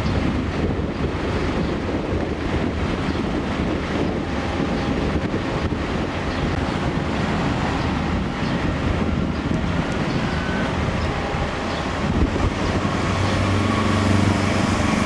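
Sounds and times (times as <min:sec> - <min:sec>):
ferry engine rumble: 0:00.0 - 0:15.0
wind noise on microphone: 0:00.0 - 0:15.0.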